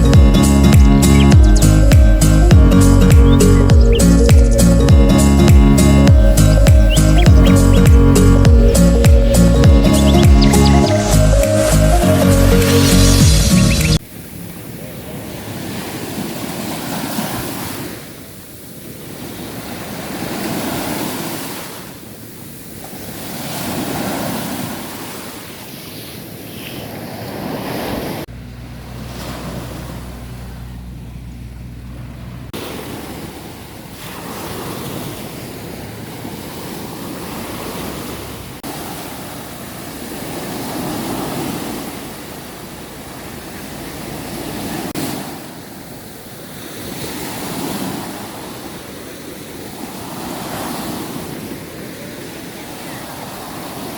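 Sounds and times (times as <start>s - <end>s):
sea waves breaking: 0.0s - 53.9s.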